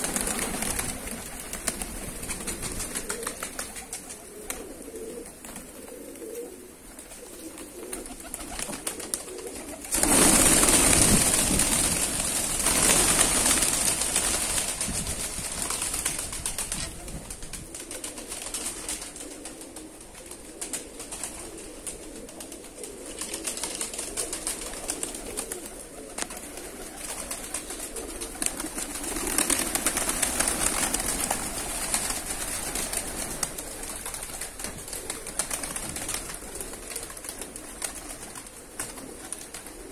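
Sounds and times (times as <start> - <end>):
pigeons cooing: 0.0 - 14.6, 15.6 - 39.9
pigeon wingbeats: 0.0 - 39.9.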